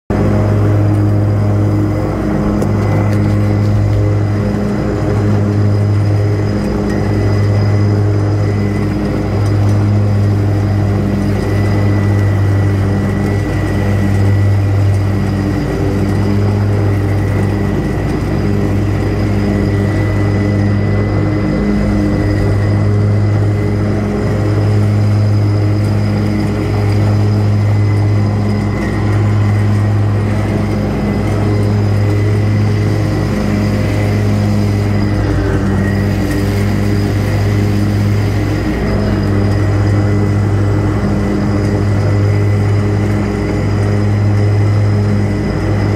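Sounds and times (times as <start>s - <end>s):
lawn mower engine running: 0.1s - 45.9s.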